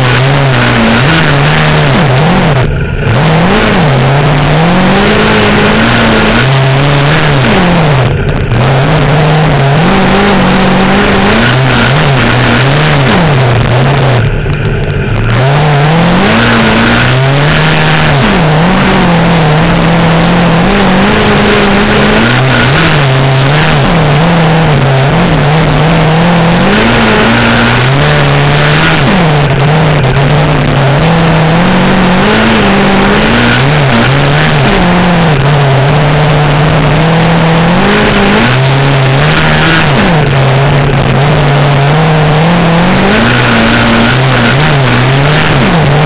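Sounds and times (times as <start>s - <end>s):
race car engine running hard: 0.0s - 46.0s.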